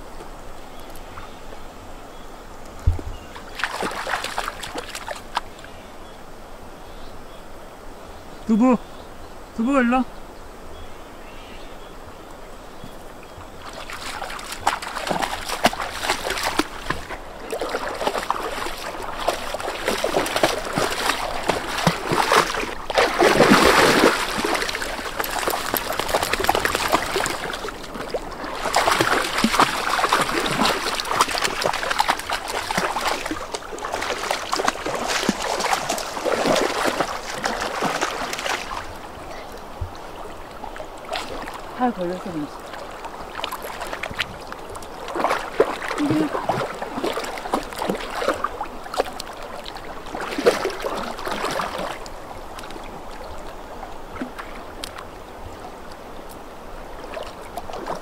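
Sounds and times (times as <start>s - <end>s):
stream current rushing: 0.0s - 6.8s, 7.5s - 58.0s
dogs splashing in stream: 3.2s - 5.8s, 13.0s - 58.0s.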